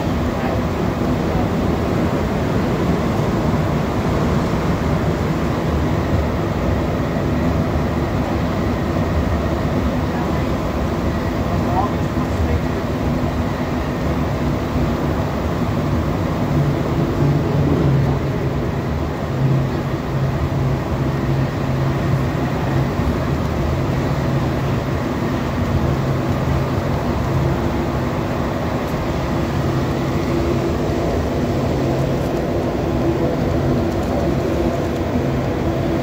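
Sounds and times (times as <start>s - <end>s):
subway train rumbling in tunnel: 0.0s - 36.0s.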